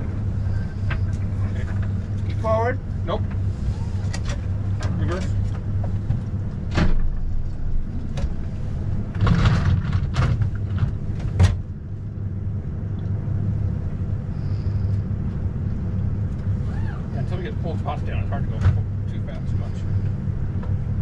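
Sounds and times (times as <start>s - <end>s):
outboard motors rumbling: 0.0s - 21.0s.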